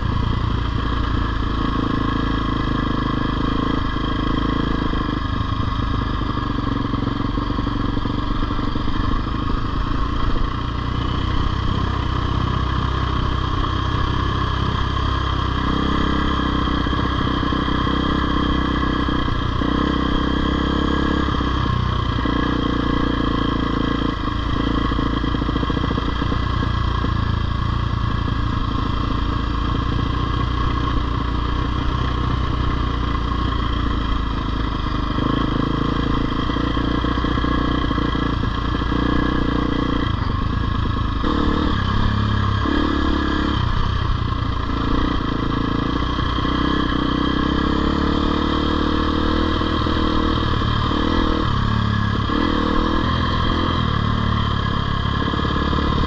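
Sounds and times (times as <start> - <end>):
dirt bike engine revving: 6.7 - 56.0.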